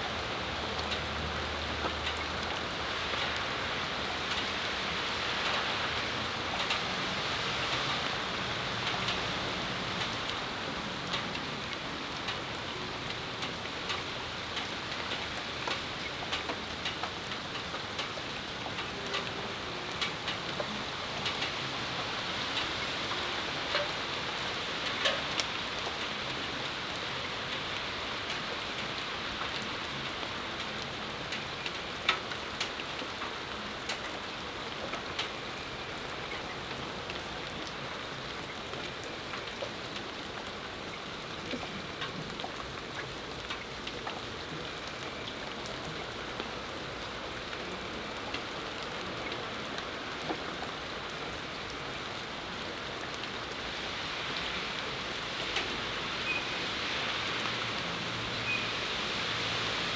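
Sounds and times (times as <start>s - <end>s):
raindrops ticking: 0.0s - 59.9s
steady rain falling: 0.0s - 59.9s.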